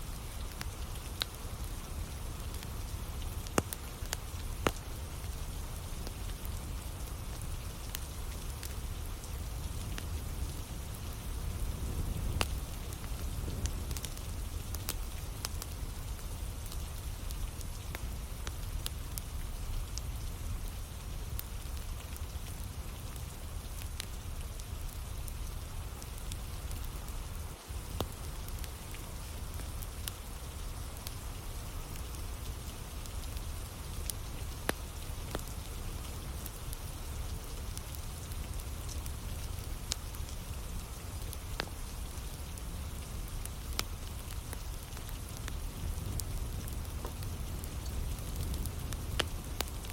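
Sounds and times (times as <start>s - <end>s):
firewood crackling and popping: 0.0s - 49.9s
steady rain: 0.0s - 49.9s.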